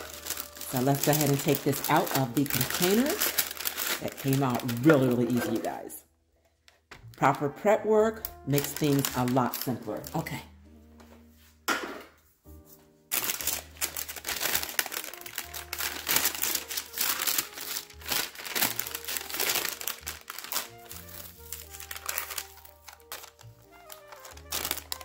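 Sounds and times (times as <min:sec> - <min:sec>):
plastic wrap crinkling: 0:00.0 - 0:06.0, 0:08.1 - 0:10.4, 0:13.1 - 0:25.0.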